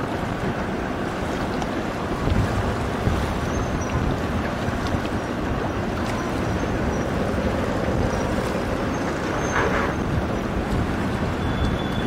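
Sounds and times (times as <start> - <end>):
ship rumble and rushing water: 0.0 - 12.0.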